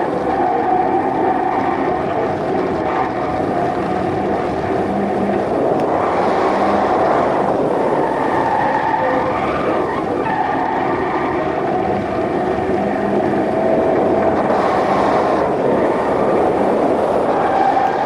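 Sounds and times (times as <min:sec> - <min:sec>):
car engine running hard: 0:00.0 - 0:18.0
wind rush on microphone: 0:00.0 - 0:18.0.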